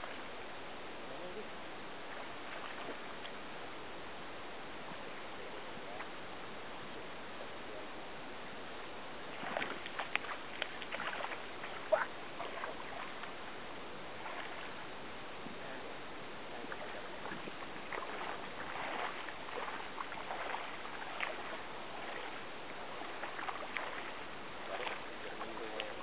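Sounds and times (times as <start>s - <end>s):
pond water lapping: 0.0s - 4.0s, 8.8s - 26.0s.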